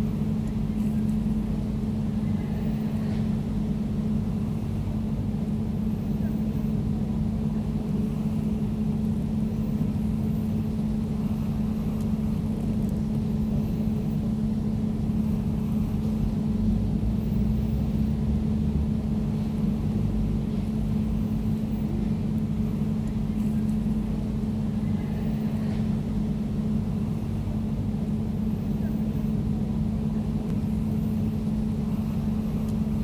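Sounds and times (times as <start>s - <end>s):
air conditioner humming: 0.0s - 33.0s.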